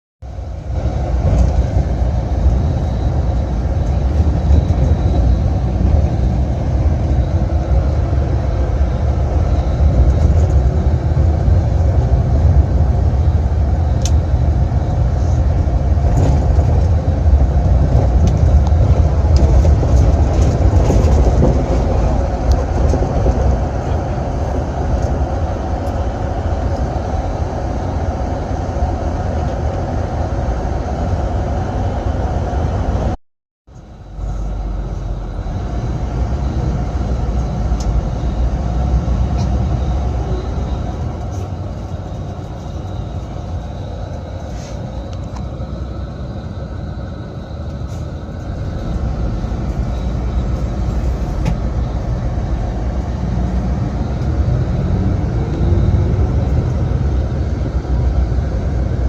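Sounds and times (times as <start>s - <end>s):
bus engine and road rumble: 0.2s - 59.0s.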